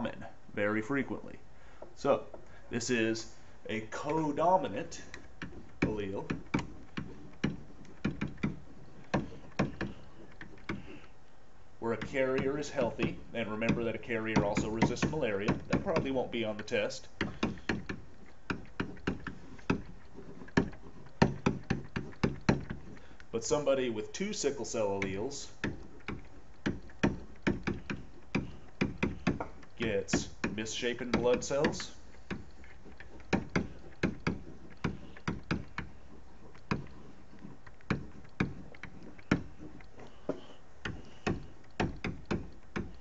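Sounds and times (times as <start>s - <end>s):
faint steady hiss: 0.0s - 43.0s.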